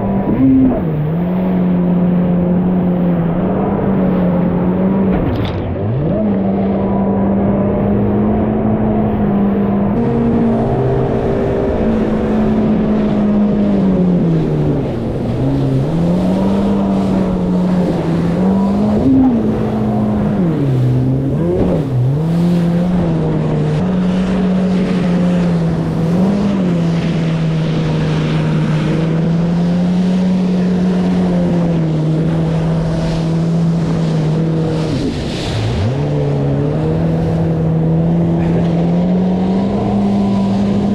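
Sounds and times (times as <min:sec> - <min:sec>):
jet ski engine droning: 0:00.0 - 0:40.9.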